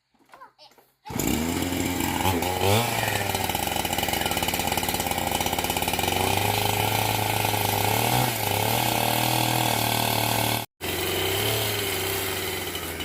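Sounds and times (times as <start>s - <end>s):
chainsaw running: 1.1s - 13.0s.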